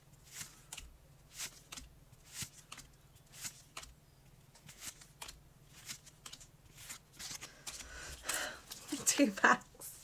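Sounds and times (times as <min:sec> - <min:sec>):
trading cards swishing: 0:00.2 - 0:04.0, 0:04.6 - 0:09.0.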